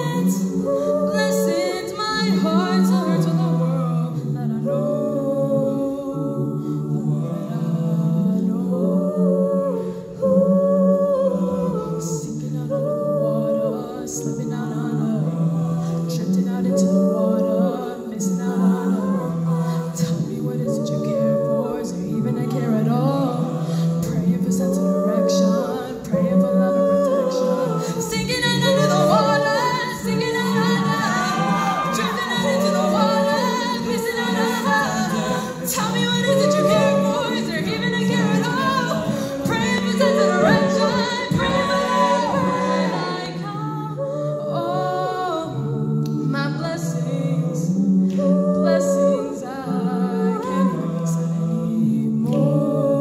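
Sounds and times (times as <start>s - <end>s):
a cappella group singing: 0.0s - 53.0s.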